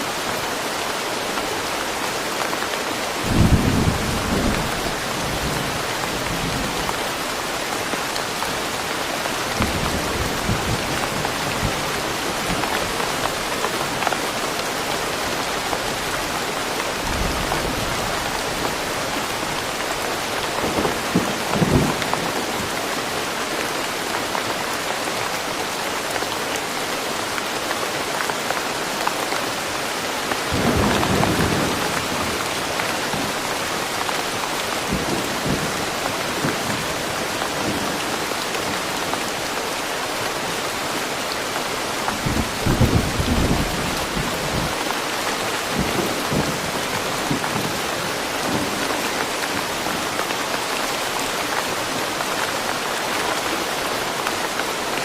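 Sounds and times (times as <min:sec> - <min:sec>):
steady rain in forest: 0:00.0 - 0:55.0.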